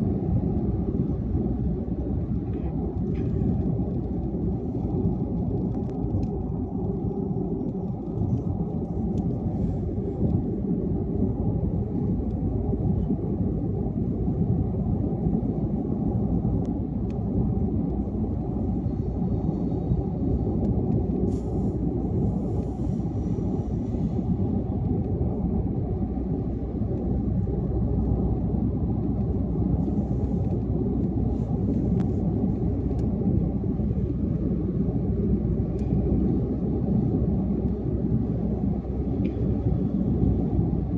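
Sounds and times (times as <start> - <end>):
car driving at highway speed: 0.0 - 40.9.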